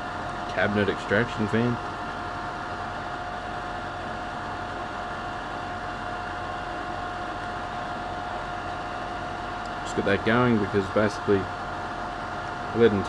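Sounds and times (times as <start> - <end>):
extraction fan running: 0.0 - 13.0.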